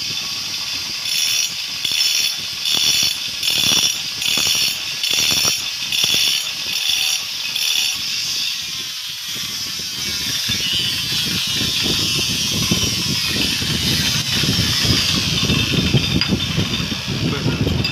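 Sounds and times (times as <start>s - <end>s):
angle grinder scoring stone: 0.0s - 17.9s
steady grinding hiss: 0.0s - 17.9s.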